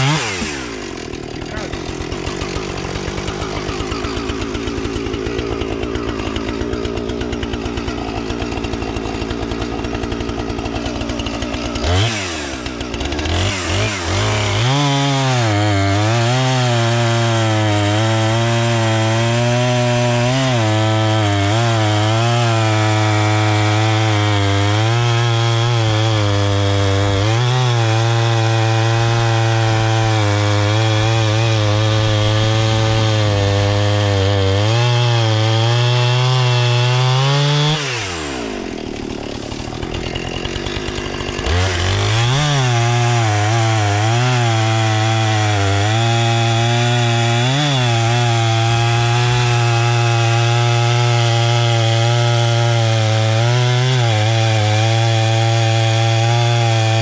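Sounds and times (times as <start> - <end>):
chainsaw cutting through log: 0.0 - 57.0.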